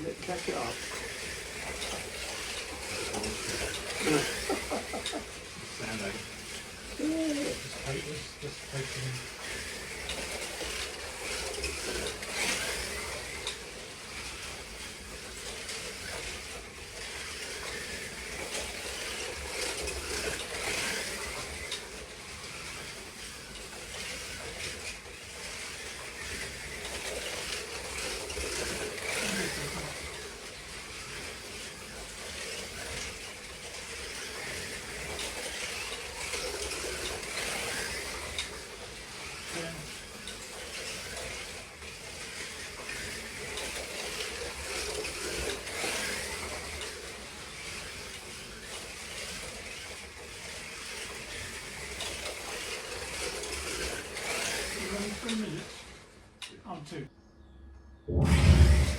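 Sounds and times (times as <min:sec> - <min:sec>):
slot cars whirring: 0:00.0 - 0:56.2.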